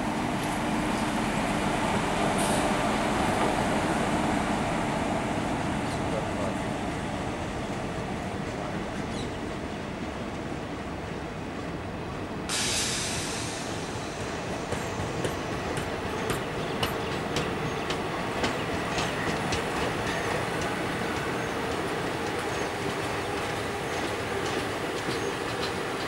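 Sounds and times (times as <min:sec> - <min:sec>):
train rolling past: 0:00.0 - 0:26.0.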